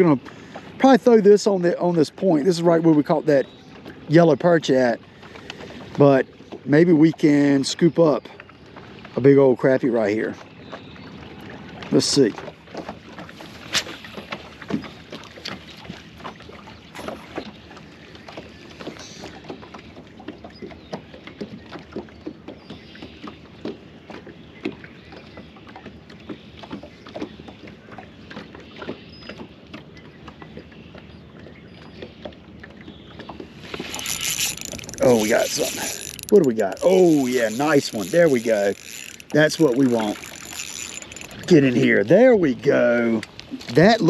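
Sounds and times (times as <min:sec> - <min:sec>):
waves lapping against boat hull: 0:00.0 - 0:44.0.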